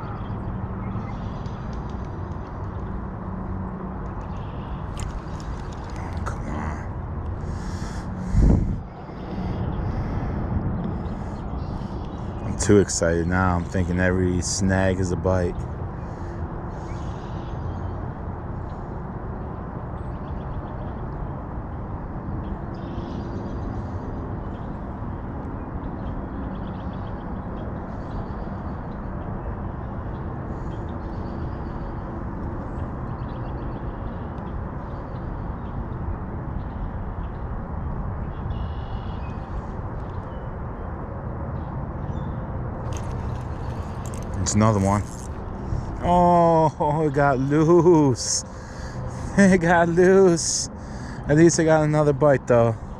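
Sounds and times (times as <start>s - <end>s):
low outdoor rumble: 0.0s - 52.9s.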